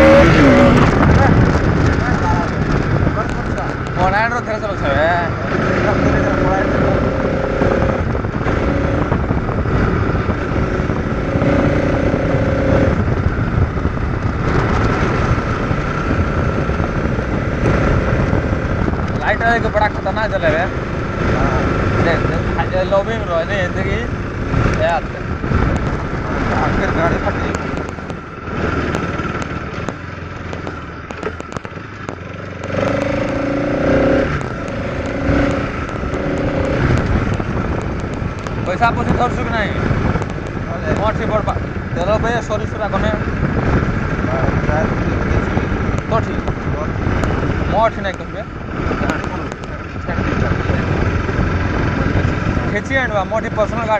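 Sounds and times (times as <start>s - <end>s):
motorcycle engine and road noise: 0.0s - 53.9s.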